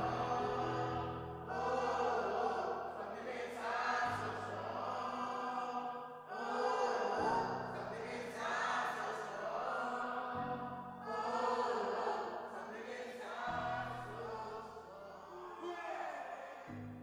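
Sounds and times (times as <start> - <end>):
group chanting in unison: 0.0 - 17.0.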